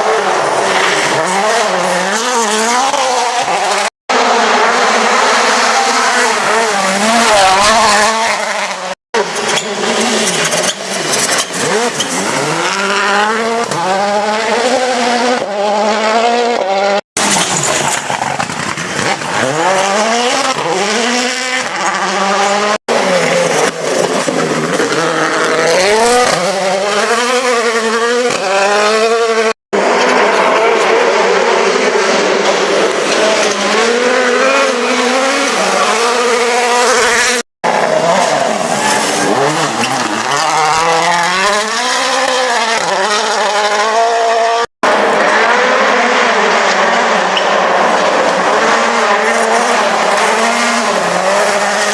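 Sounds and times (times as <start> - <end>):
rally car engines revving hard: 0.0 - 51.9.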